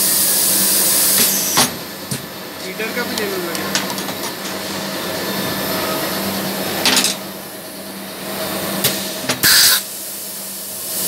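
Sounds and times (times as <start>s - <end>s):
bending machine humming: 0.0s - 10.9s.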